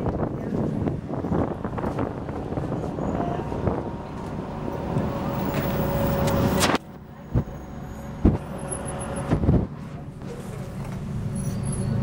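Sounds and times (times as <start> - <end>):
bus engine running: 0.0 - 12.0
road and traffic noise: 0.0 - 12.0.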